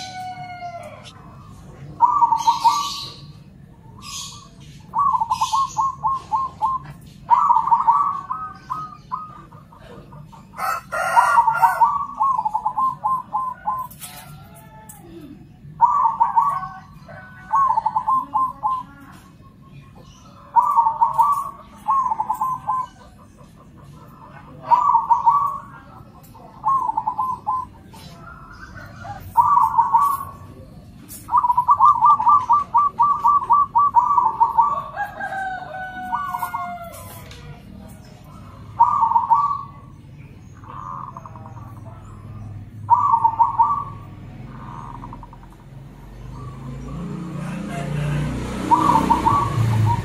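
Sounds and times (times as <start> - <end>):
doves cooing: 0.0 - 50.0.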